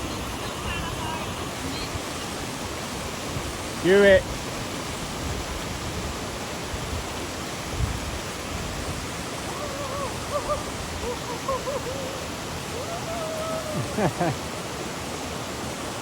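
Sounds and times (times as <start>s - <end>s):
waterfall rushing into a pool: 0.0s - 16.0s.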